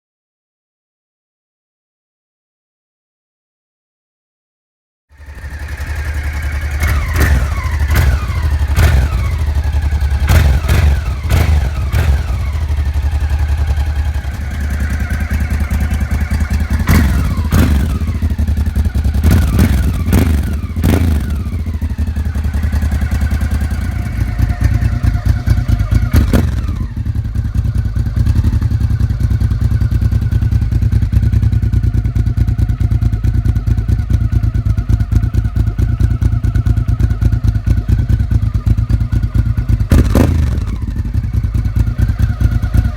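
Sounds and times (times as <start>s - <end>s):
motorcycle engine revving: 5.1s - 42.9s.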